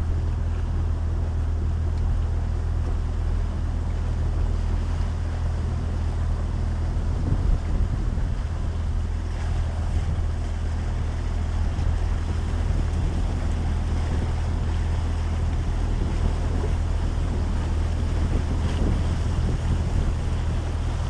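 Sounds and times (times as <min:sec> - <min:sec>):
boat motor humming: 0:00.0 - 0:21.0
rushing water: 0:00.0 - 0:21.0
wind: 0:00.0 - 0:21.0.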